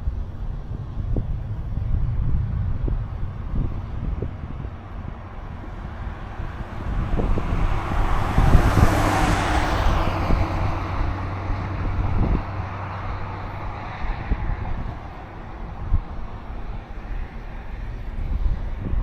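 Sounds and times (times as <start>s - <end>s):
car passing by: 0.0s - 19.0s
steady low hum: 0.0s - 19.0s.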